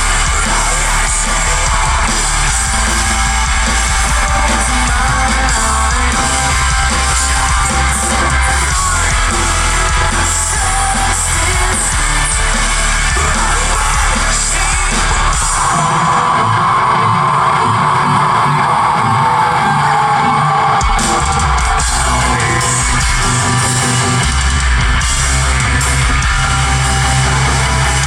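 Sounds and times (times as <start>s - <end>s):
distorted electric guitars: 0.0s - 28.0s
drums: 0.0s - 28.0s
heavy bass: 0.0s - 28.0s
vocalist singing and screaming: 0.0s - 28.0s.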